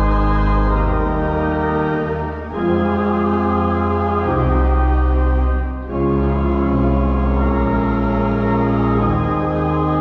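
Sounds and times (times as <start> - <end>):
church organ chords: 0.0 - 10.0.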